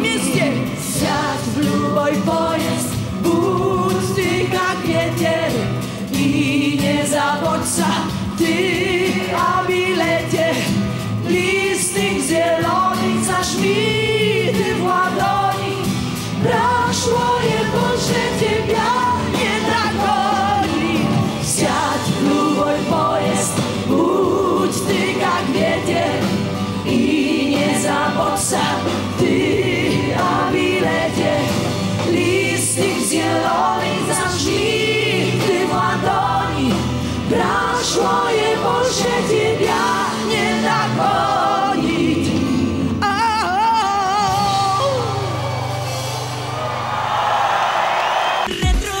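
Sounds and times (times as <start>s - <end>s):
audience singing along: 0.0s - 43.1s, 45.0s - 48.6s
live pop band music: 0.0s - 49.0s.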